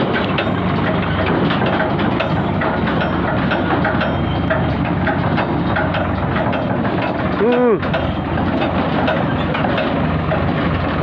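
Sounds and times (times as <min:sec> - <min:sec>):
fast metallic clatter: 0:00.0 - 0:11.0
tractor diesel engine running: 0:00.0 - 0:11.0.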